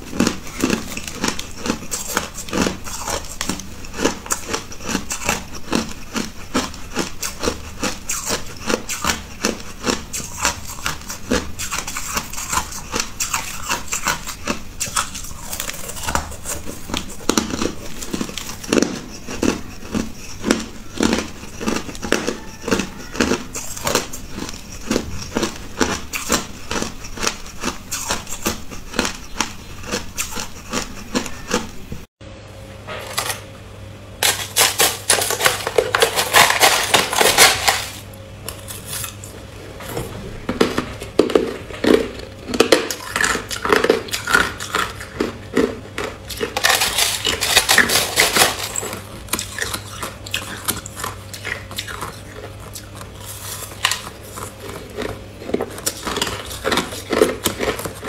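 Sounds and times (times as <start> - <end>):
ice crunched between teeth: 0.1 - 31.6, 34.2 - 38.0, 41.4 - 58.0.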